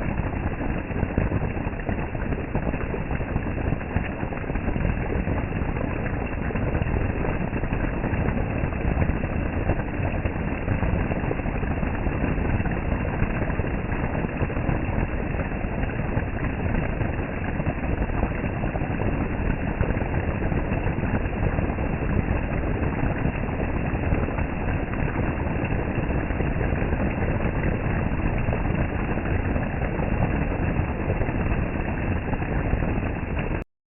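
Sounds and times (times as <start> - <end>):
storm water rushing: 0.0 - 33.6.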